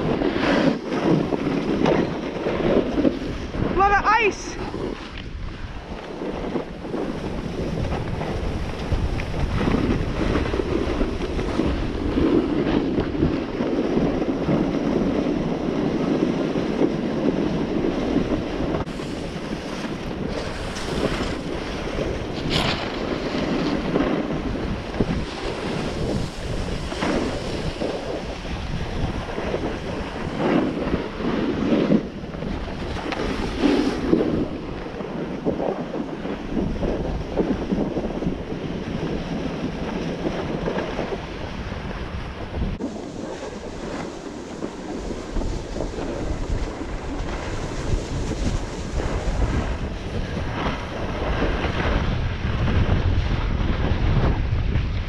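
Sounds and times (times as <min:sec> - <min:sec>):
skis scraping over snow: 0:00.0 - 0:55.0
wind rushing over microphone: 0:00.0 - 0:55.0.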